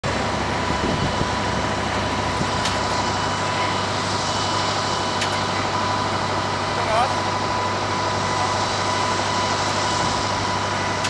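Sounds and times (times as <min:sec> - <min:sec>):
mechanical drone with whine: 0:00.0 - 0:11.0.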